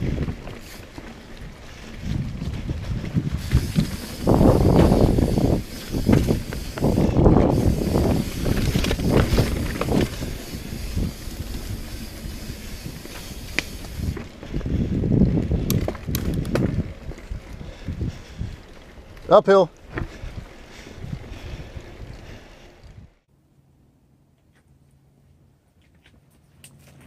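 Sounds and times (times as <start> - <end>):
bike clicks and rattles: 0.0 - 23.2
wind buffeting microphone: 0.0 - 23.2
tyre and trail noise: 0.0 - 23.3, 24.0 - 27.0.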